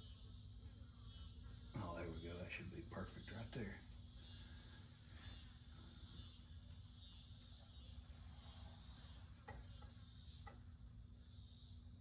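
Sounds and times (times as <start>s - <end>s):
faint high chirring: 0.0s - 12.0s
faint steady hum: 0.0s - 12.0s.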